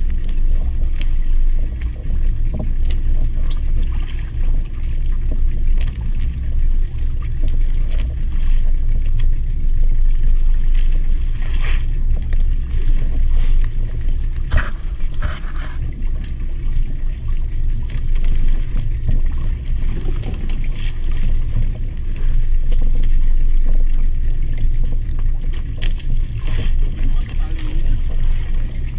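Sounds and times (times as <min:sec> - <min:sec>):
boat engine rumble: 0:00.0 - 0:28.9.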